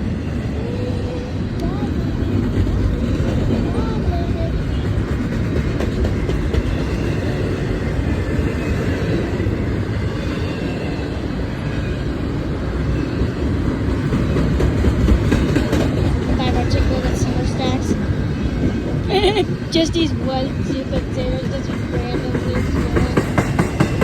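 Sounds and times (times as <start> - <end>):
steel wheels rumbling on rail: 0.0 - 24.0
clickety-clack of rail joints: 1.4 - 19.1, 19.8 - 24.0.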